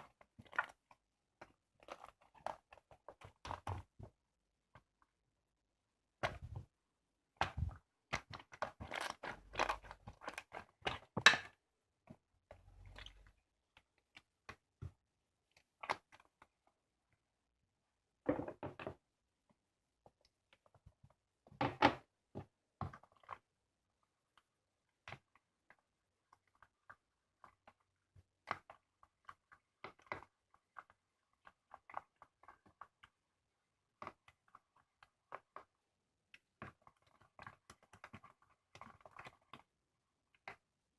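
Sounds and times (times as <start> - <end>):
hands squishing slime: 0.0 - 5.0, 6.1 - 16.7, 22.4 - 40.8.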